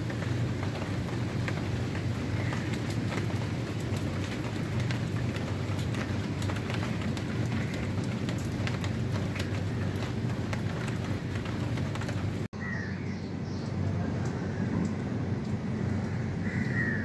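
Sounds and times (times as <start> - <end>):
rain falling on water: 0.0 - 12.5, 13.6 - 17.0.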